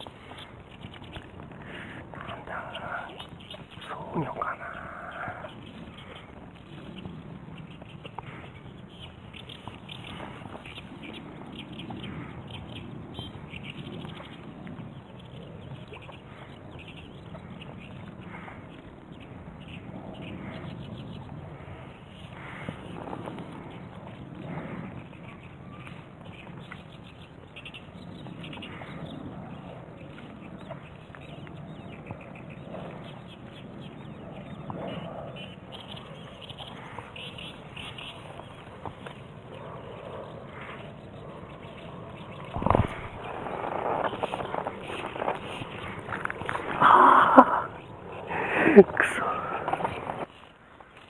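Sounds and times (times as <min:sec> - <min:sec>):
steady low rumble: 0:00.0 - 0:50.4
birds singing: 0:00.0 - 0:51.0
low background noise: 0:00.0 - 0:51.0.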